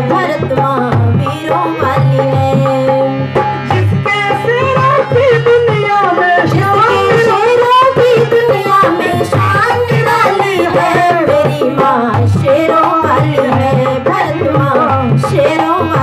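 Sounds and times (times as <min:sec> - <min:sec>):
tabla drumming: 0:00.0 - 0:16.0
woman singing into a microphone: 0:00.0 - 0:16.0.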